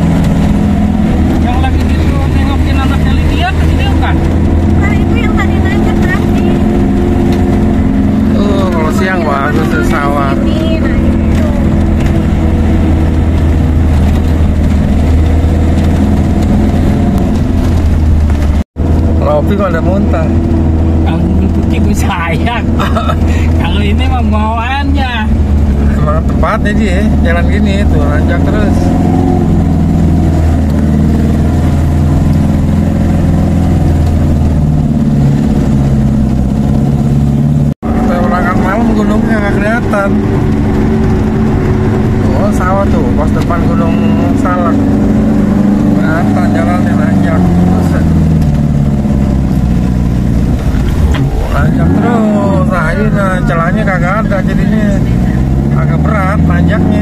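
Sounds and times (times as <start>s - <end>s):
car engine droning inside cabin: 0.0s - 57.0s.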